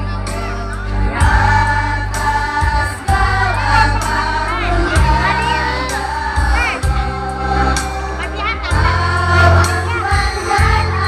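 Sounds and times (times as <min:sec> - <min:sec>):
instrumental accompaniment with bass: 0:00.0 - 0:11.0
choir singing in unison: 0:00.9 - 0:11.0.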